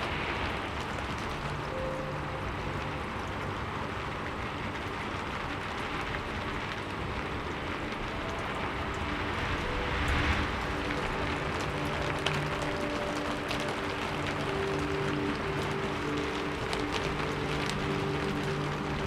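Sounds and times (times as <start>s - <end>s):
rain: 0.0s - 19.0s
soft background music: 0.0s - 19.0s.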